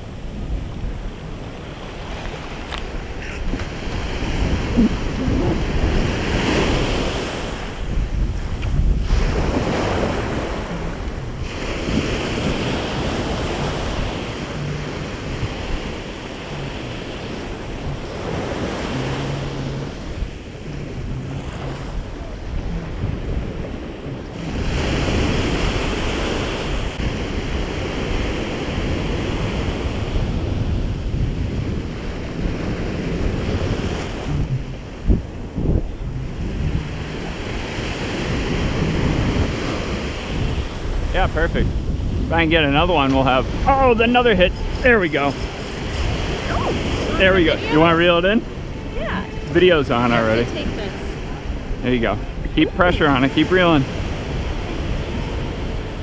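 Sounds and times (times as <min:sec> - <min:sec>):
small waves breaking on beach: 0:00.0 - 0:56.0
wind buffeting microphone: 0:00.0 - 0:56.0.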